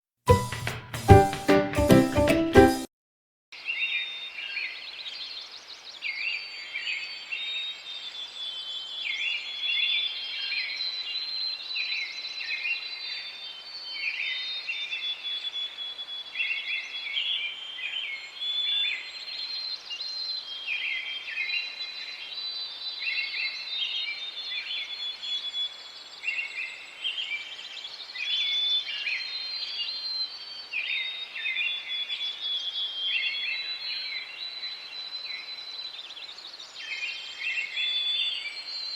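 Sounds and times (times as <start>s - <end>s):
songbirds chirping: 3.6s - 38.9s.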